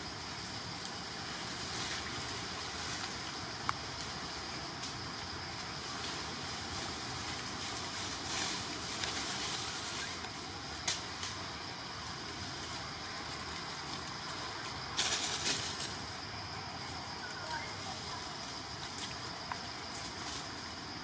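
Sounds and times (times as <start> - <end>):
rustles and snaps of twigs: 0.0 - 21.0.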